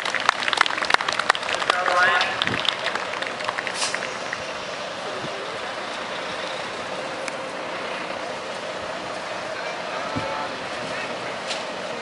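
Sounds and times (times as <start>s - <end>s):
truck running: 0.0s - 12.0s.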